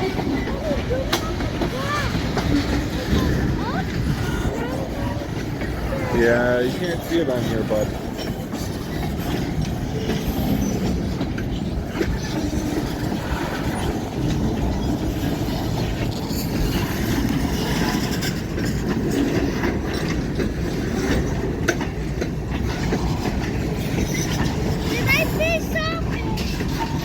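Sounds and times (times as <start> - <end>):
freight train rumbling past: 0.0 - 27.0
wheels clacking over rail joints: 0.0 - 27.0.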